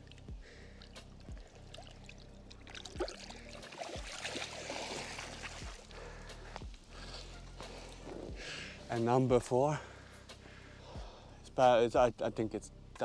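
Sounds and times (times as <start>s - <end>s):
water splashing and trickling: 0.0s - 10.6s.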